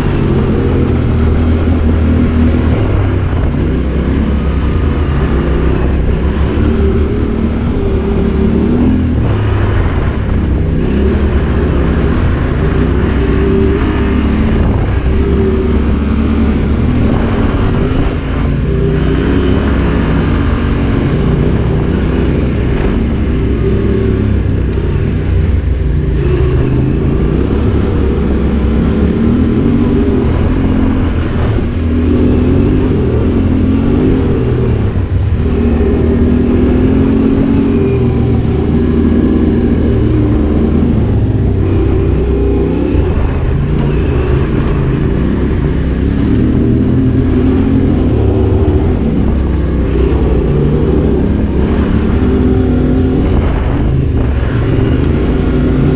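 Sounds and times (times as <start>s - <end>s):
motorcycle engine revving under load: 0.0s - 55.9s.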